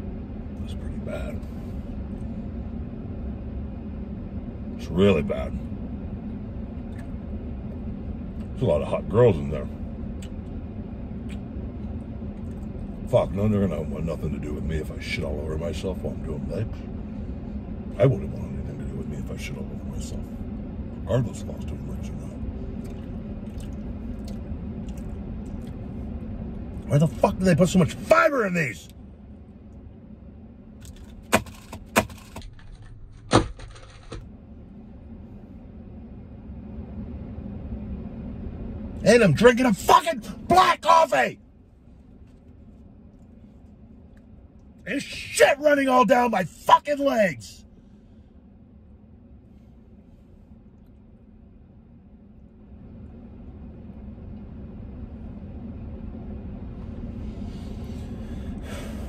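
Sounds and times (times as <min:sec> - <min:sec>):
low hum in vehicle cab: 0:00.0 - 0:59.0.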